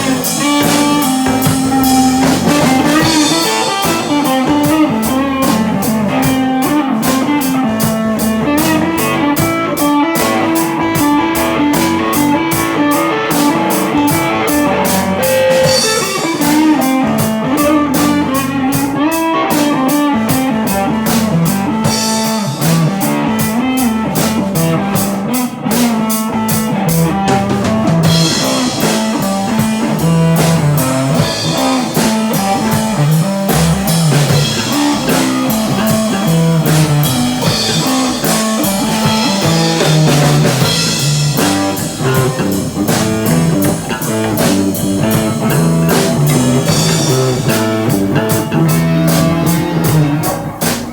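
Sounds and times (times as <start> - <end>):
drum kit beat: 0.0 - 50.9
rock guitars: 0.0 - 50.9.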